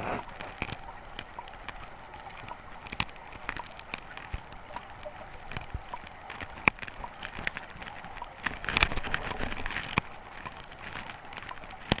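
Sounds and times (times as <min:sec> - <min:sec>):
underwater clicks and crackling: 0:00.0 - 0:12.0.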